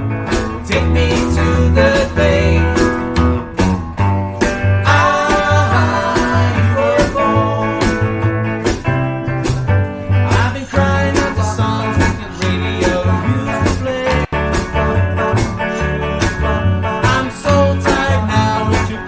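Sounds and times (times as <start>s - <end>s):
band playing blues-country song: 0.0s - 19.0s.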